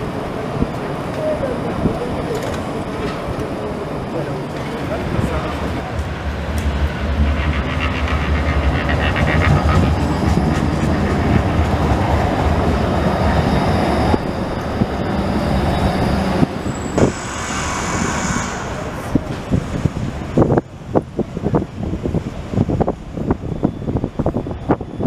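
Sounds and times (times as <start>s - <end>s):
steel wheels rumbling on rail: 0.0s - 25.0s
tram high whine: 0.0s - 25.0s.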